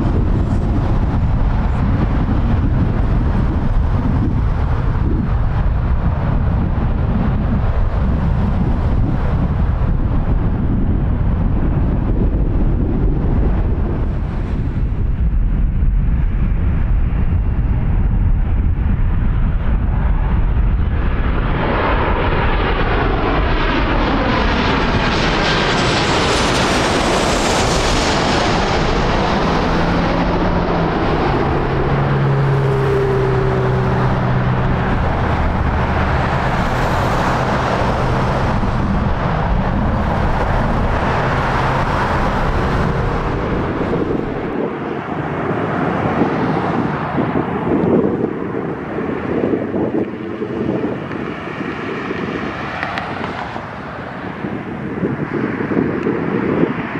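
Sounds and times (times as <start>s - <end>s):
jet engines roaring overhead: 0.0s - 56.9s.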